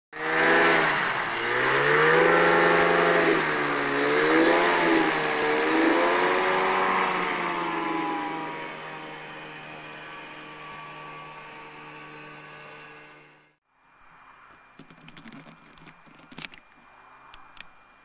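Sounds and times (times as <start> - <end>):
microlight engine and propeller: 0.2 - 13.6, 14.4 - 18.0.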